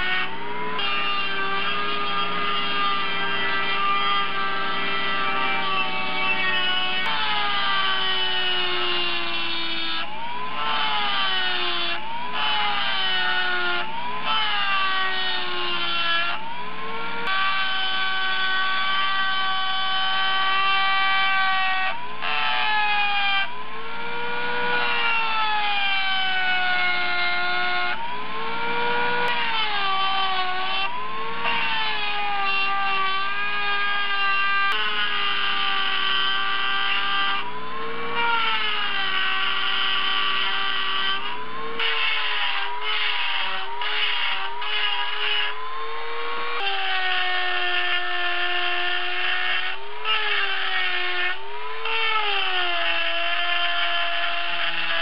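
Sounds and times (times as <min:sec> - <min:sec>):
rotary tool grinding metal: 0:00.0 - 0:55.0.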